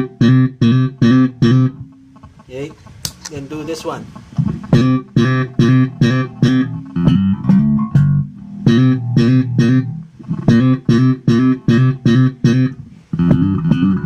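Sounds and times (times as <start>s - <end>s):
slap bass guitar notes: 0.0s - 14.0s.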